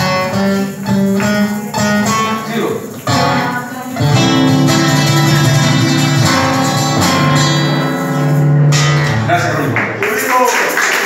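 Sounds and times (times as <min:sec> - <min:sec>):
acoustic guitars strumming chords: 0:00.0 - 0:10.0.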